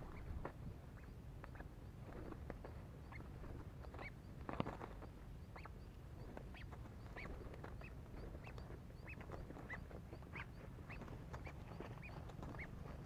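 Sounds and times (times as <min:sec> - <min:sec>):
birds clucking: 0:00.0 - 0:13.0.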